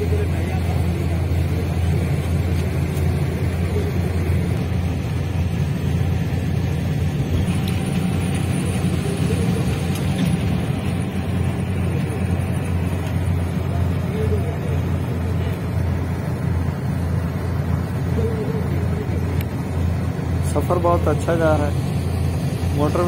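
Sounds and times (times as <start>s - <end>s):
road and engine rumble in coach: 0.0s - 23.0s.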